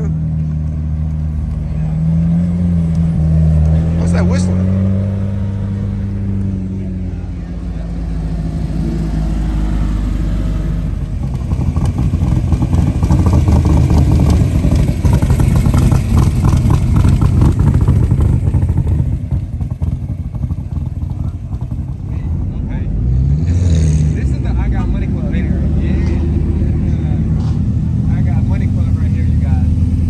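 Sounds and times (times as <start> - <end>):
car exhaust revving: 0.0 - 30.0.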